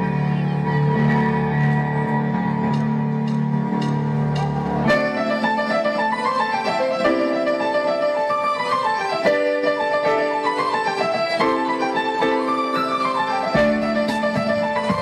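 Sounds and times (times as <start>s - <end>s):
grand piano romantic melody: 0.0s - 15.0s.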